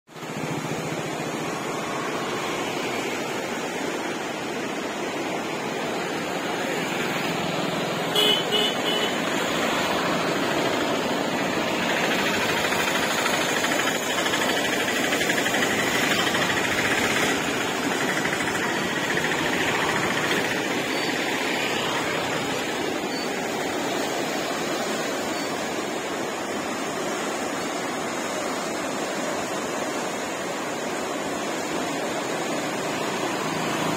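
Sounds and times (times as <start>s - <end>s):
river rushing in flood: 0.1s - 33.9s.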